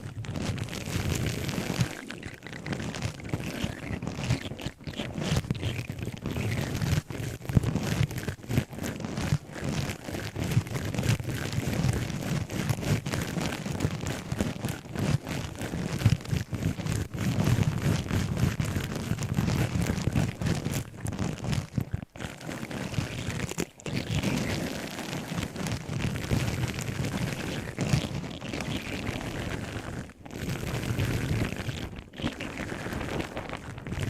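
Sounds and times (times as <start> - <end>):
objects crackling and rustling: 0.0 - 34.0.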